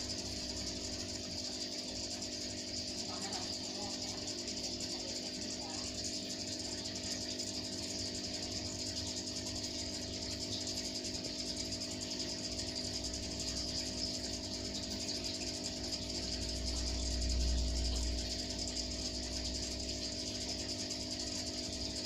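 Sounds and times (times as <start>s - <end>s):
aquarium pump humming: 0.0s - 22.0s.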